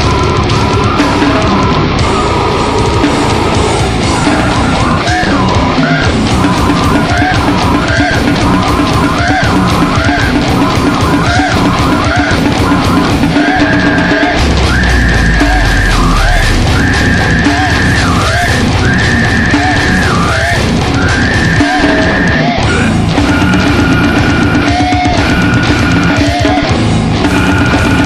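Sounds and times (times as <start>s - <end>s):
heavy metal music: 0.0s - 28.0s.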